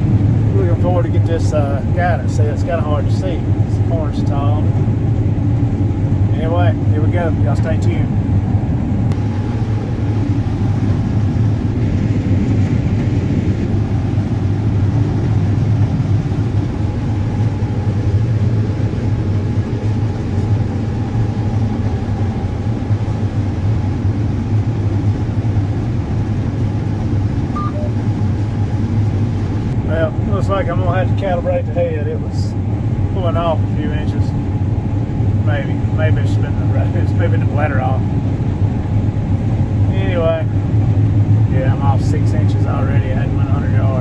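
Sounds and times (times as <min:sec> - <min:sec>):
combine harvester droning: 0:00.0 - 0:44.0.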